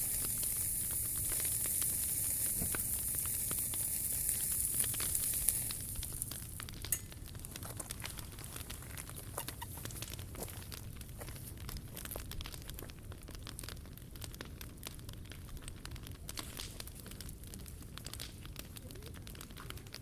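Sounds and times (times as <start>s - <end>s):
hiss from burning wood: 0.0s - 20.0s
wood fire crackling: 0.0s - 20.0s.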